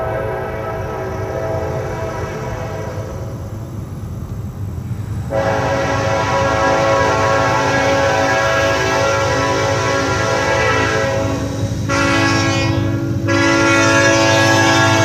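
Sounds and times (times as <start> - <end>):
locomotive air horn: 0.0 - 3.2, 5.3 - 15.0.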